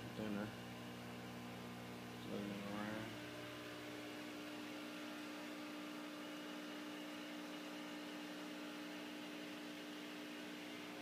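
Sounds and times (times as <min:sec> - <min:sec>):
aquarium equipment humming: 0:00.0 - 0:11.0.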